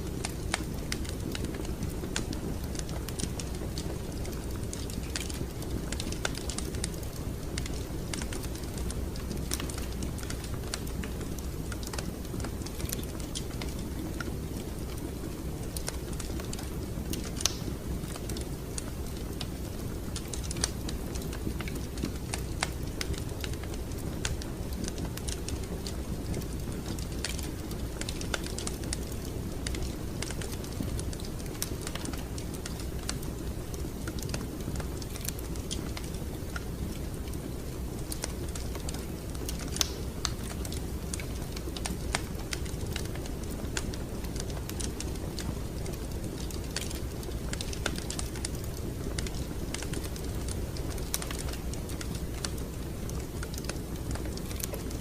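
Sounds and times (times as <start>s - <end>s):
fire low rumble: 0.0s - 55.0s
wood fire popping and snapping: 0.0s - 55.0s.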